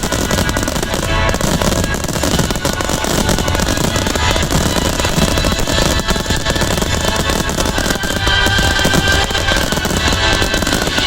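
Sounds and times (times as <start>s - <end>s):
fireworks bursting and crackling: 0.0s - 11.0s
loud music: 0.0s - 11.0s.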